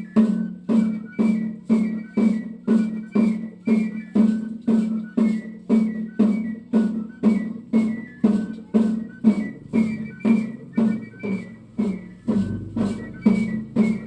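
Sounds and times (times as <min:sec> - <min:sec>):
drum beat: 0:00.0 - 0:14.0
high whistle-like flute melody: 0:00.0 - 0:14.0.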